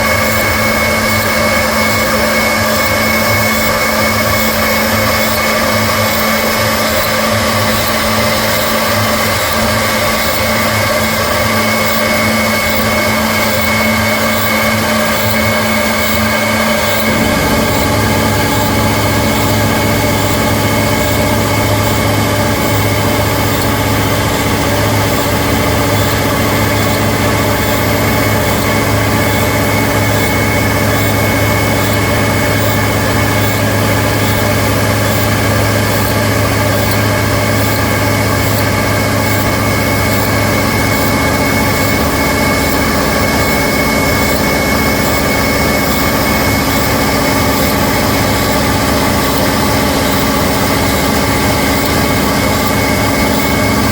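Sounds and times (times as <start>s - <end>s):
cnc machine humming: 0.0s - 53.9s
high whine: 0.0s - 53.9s.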